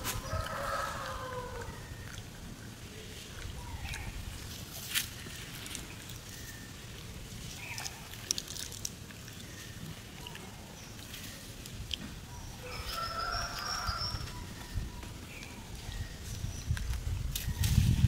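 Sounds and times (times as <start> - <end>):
monkeys shifting on dry leaves: 0.0 - 18.0.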